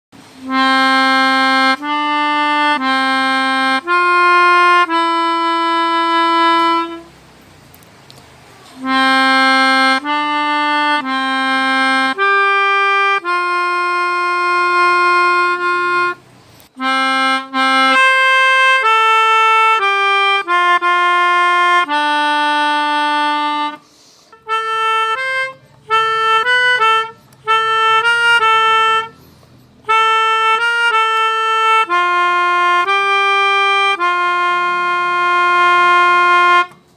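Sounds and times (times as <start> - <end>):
melodica melody: 0.2 - 7.8, 8.6 - 36.9.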